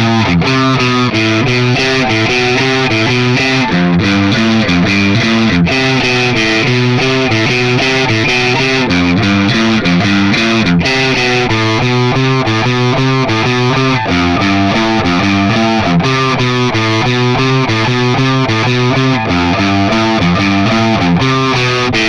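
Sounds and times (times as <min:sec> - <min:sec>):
distorted electric guitar run: 0:00.0 - 0:22.0.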